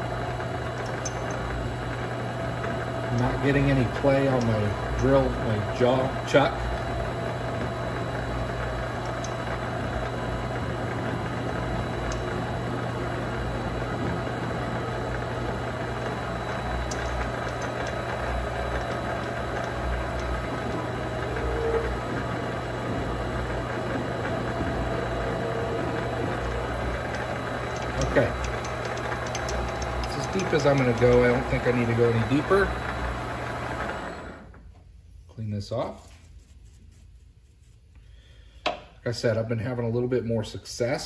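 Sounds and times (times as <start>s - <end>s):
drill bit boring into workpiece: 0.0s - 34.3s
lathe motor humming: 0.0s - 34.5s.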